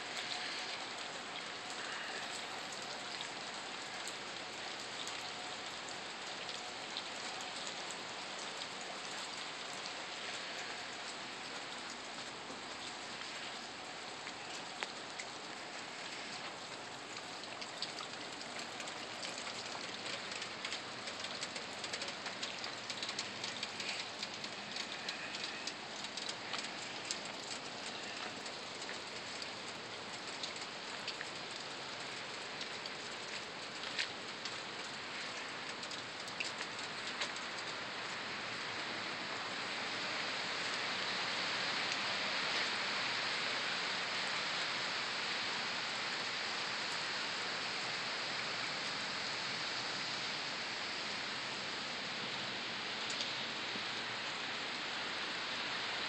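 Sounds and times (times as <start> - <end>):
steady rain on wet ground: 0.0 - 56.0.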